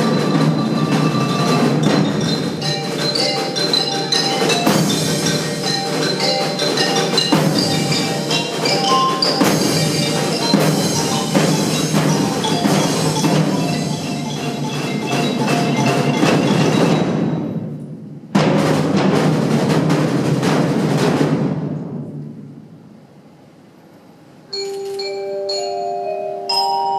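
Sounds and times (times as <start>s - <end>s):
percussion ensemble with mallets: 0.0s - 22.8s, 23.8s - 26.9s.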